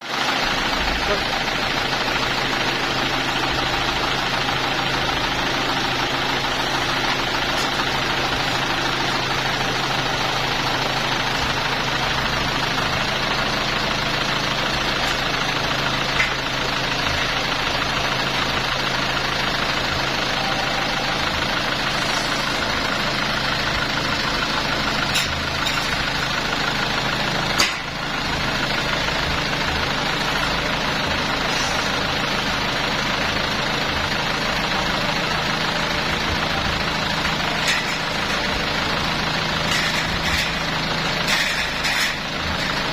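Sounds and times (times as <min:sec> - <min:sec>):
sawmill machinery droning: 0:00.0 - 0:42.9.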